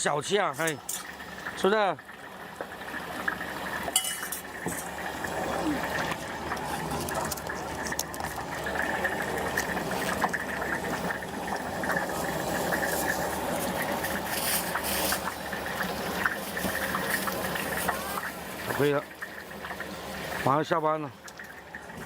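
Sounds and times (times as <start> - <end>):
deep-frying sizzle in oil: 0.0 - 22.0.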